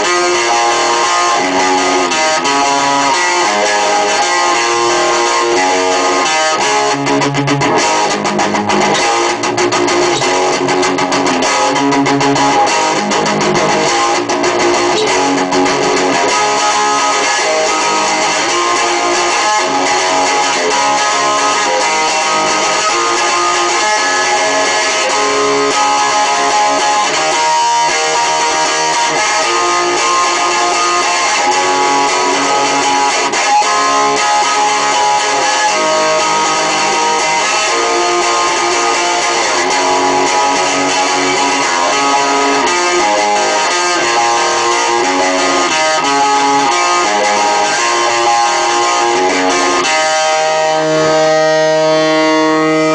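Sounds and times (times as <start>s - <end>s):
electric guitar playing: 0.0s - 52.9s.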